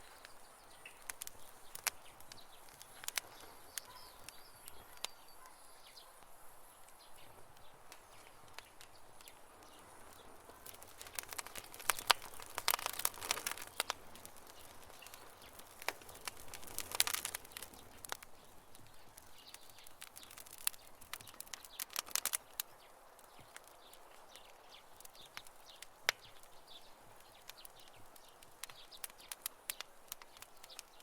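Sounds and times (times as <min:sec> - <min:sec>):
campfire wood crackling and popping: 0:00.0 - 0:31.0.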